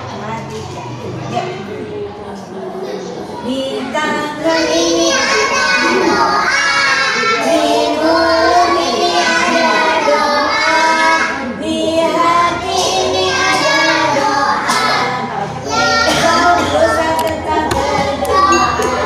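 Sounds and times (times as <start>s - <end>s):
young children singing: 2.5s - 19.0s.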